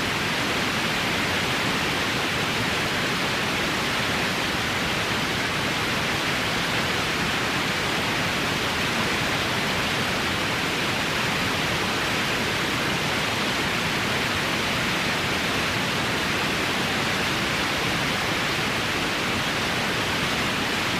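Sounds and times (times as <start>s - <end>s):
white noise hiss: 0.0s - 20.9s.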